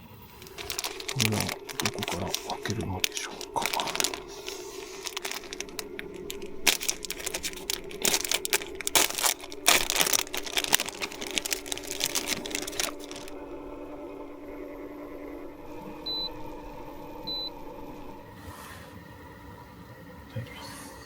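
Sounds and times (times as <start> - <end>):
steady low hum: 0.0 - 21.0
crinkling and rustling: 0.2 - 18.4.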